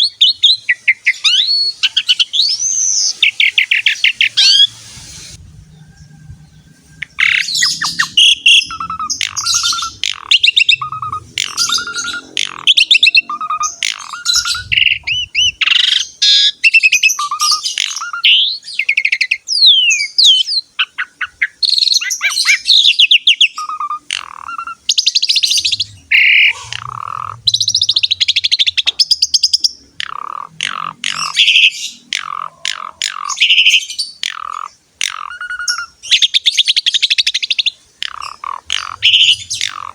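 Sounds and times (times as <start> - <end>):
starling singing trills and whistles: 0.0 - 39.9.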